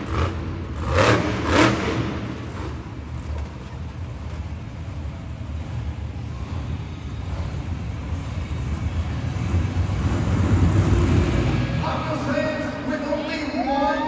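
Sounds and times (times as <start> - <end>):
truck engine deep rumble: 0.0 - 14.0.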